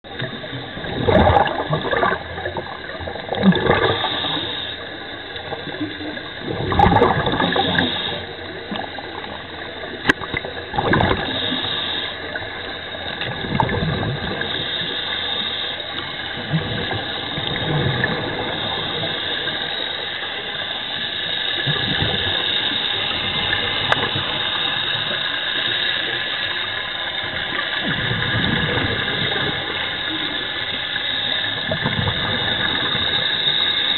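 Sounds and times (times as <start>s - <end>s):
bubbles gurgling underwater: 0.0s - 4.6s, 5.2s - 15.1s, 15.9s - 19.8s, 21.6s - 25.3s, 27.1s - 33.8s
steady underwater hiss: 0.0s - 33.9s.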